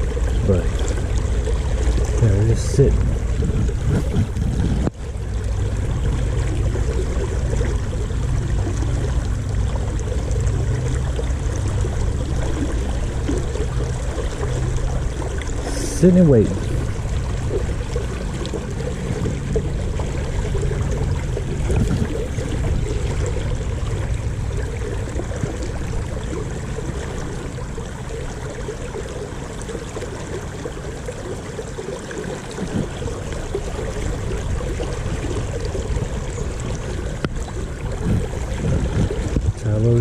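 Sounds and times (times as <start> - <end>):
river flowing over shallows: 0.0 - 40.0.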